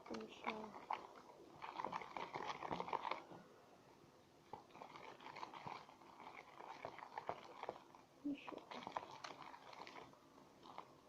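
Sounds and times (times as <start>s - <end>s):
slime squelching and clicking: 0.0s - 3.4s, 4.5s - 11.0s.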